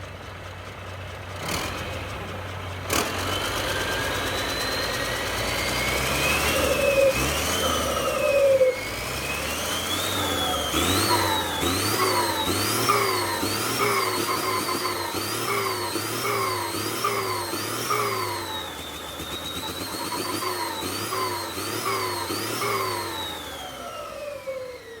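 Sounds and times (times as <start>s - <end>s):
engine revving: 1.3s - 25.0s.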